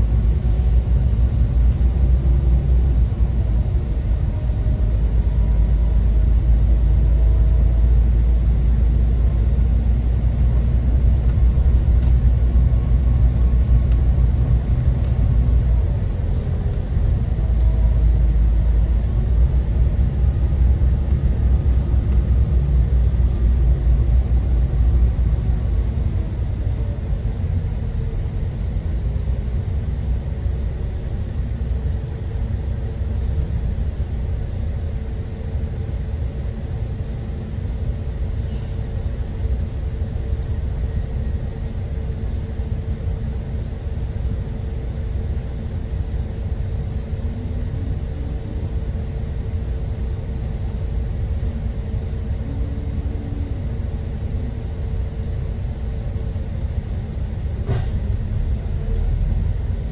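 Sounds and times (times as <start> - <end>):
bus engine idling: 0.0 - 59.9
steady hum: 0.0 - 59.9.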